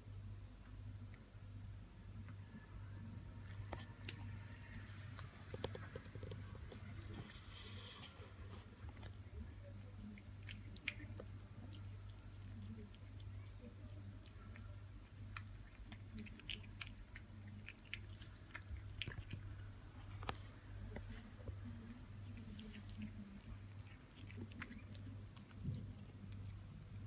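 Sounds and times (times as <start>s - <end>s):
faint low hum: 0.0s - 27.0s
kitten chewing meat: 3.3s - 27.0s.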